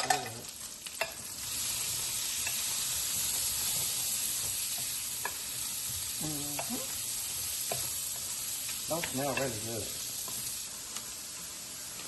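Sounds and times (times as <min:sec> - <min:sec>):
meatballs sizzling in oil: 0:00.0 - 0:12.0.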